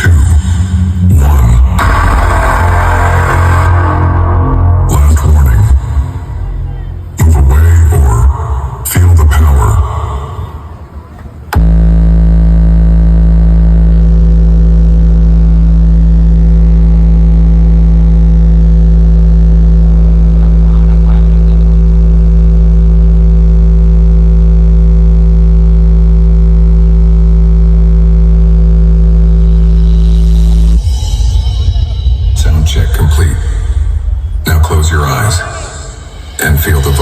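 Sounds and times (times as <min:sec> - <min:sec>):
loud low bass test tone: 0:00.0 - 0:37.0.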